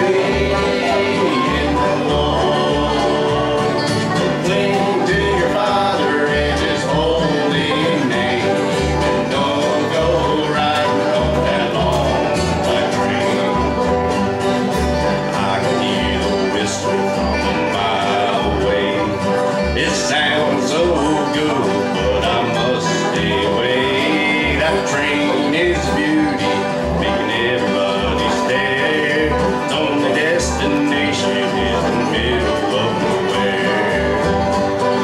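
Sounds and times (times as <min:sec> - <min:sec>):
acoustic guitar: 0:00.0 - 0:35.0
banjo picking: 0:00.0 - 0:35.0
plucked upright bass: 0:00.0 - 0:35.0.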